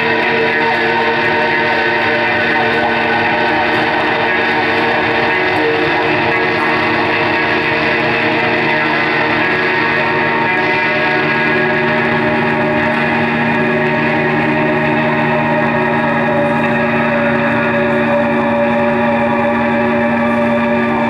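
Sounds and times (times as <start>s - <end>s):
band sustained guitar drone: 0.0s - 21.0s.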